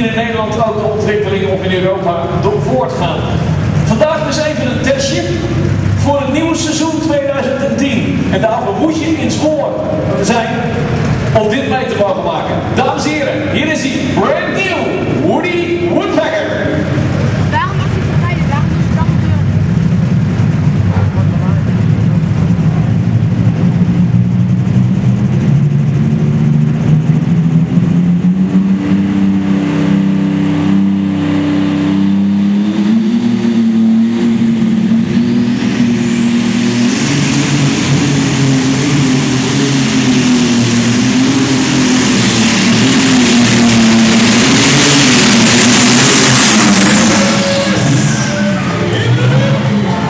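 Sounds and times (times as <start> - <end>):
tractor engine at full throttle: 0.0 - 50.0.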